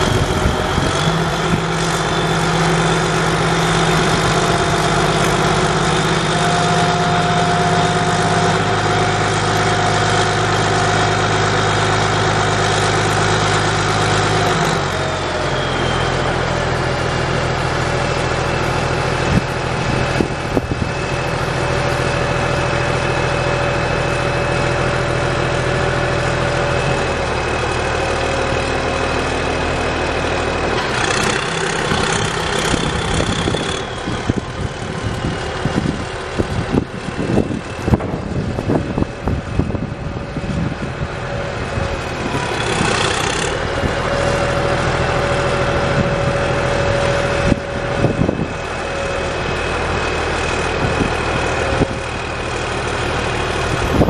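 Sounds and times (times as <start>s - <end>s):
diesel engine running: 0.0s - 54.0s
hydraulic whine: 0.0s - 54.0s.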